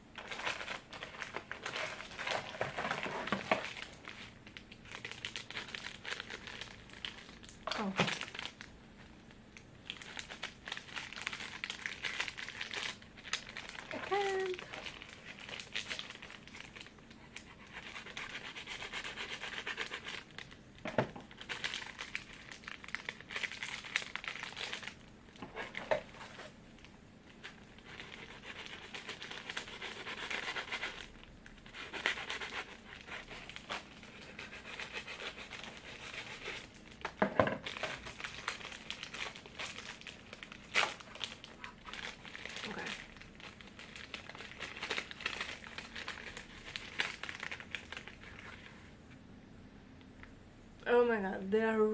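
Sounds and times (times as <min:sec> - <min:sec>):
plastic snack pack crinkling: 0:00.1 - 0:48.9.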